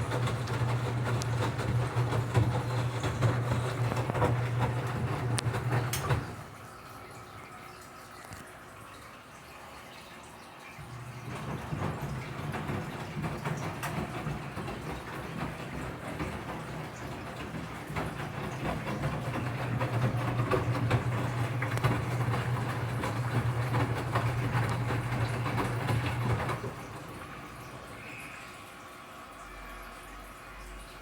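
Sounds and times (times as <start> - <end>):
water and clothes sloshing: 0.0 - 29.4
washing machine motor hum: 0.0 - 31.0.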